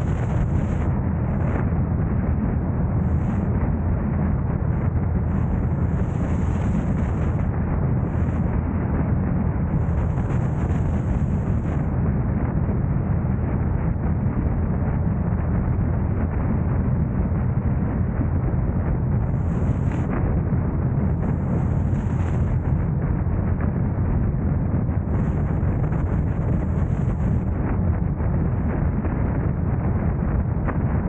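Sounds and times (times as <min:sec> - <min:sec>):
wind and road noise rumble: 0:00.0 - 0:31.0.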